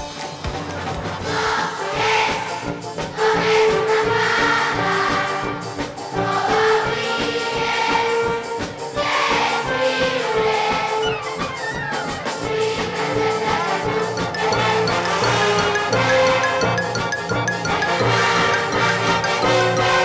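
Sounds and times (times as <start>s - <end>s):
instrumental band accompaniment: 0.0s - 20.0s
children's choir singing: 0.7s - 20.0s.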